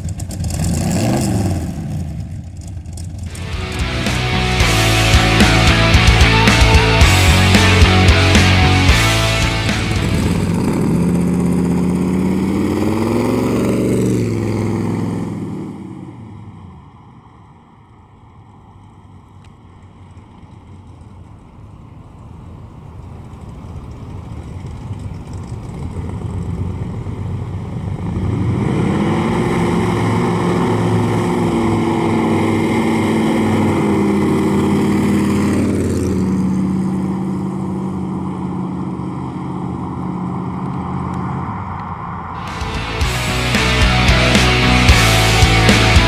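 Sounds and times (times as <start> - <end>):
car engine rumbling: 0.0 - 46.0.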